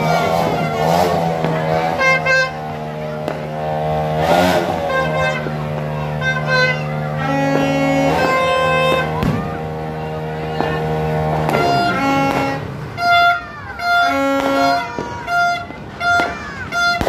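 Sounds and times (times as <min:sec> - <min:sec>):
plastic toy horns blowing: 0:00.0 - 0:17.0.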